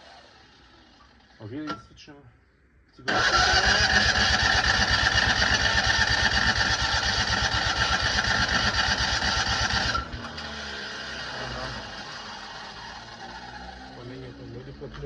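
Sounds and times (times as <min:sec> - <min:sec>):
loud starter whine: 0:00.0 - 0:01.6, 0:03.1 - 0:15.0
engine cranking on starter: 0:00.0 - 0:01.7, 0:03.1 - 0:15.0.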